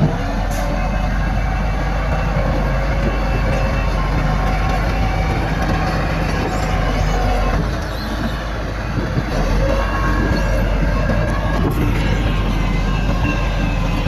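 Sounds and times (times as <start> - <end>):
diesel earthmoving machinery rumbling: 0.0 - 14.0.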